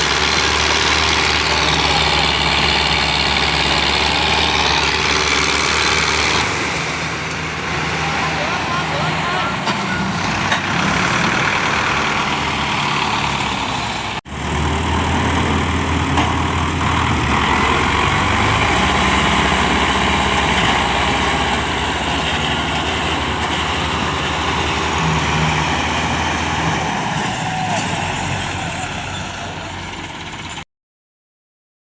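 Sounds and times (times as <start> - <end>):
tractor diesel engine running: 0.0 - 30.6.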